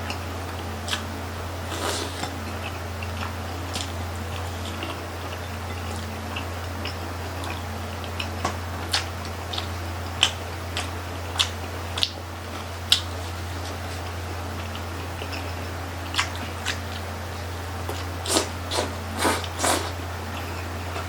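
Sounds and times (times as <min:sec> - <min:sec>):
people chewing with wet smacks: 0:00.0 - 0:21.0
steady low hum: 0:00.0 - 0:21.0.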